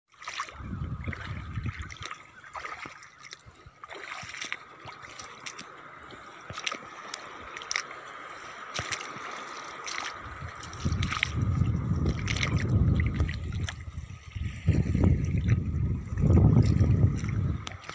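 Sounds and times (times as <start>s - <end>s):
small splashes: 0.1s - 17.9s
water trickling over rocks: 0.1s - 17.9s.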